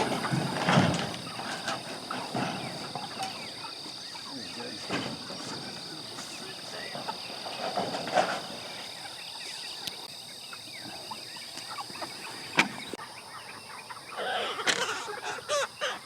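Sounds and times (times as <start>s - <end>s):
chickens squawking and clucking: 0.0s - 16.0s
insects droning: 0.0s - 16.0s.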